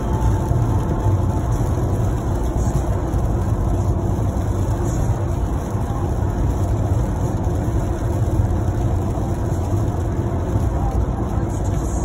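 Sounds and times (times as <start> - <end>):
car engine rumble: 0.0 - 12.0
tyres on wet road: 0.0 - 12.0.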